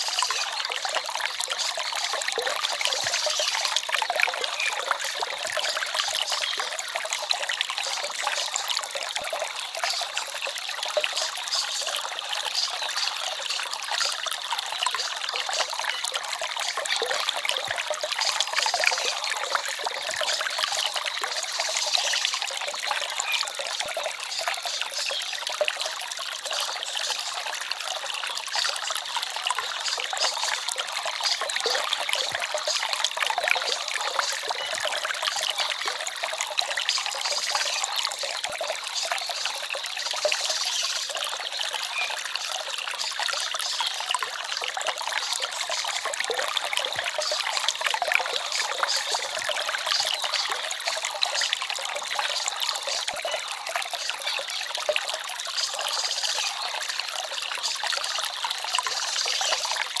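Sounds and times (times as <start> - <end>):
stream babbling over stones: 0.0 - 60.0.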